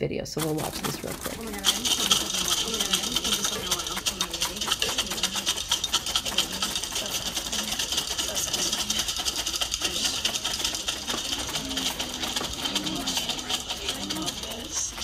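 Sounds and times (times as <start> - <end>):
felting needles ticking: 0.4 - 15.0
faint voices: 0.6 - 15.0.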